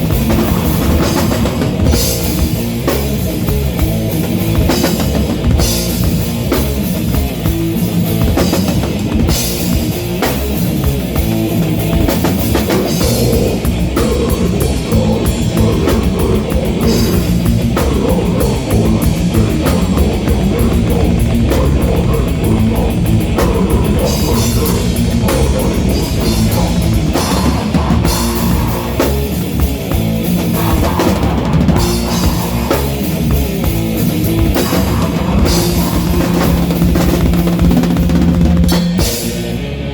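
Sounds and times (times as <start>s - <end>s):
rapid cymbal and drum strikes: 0.0s - 39.6s
live rock band playing: 0.0s - 39.9s.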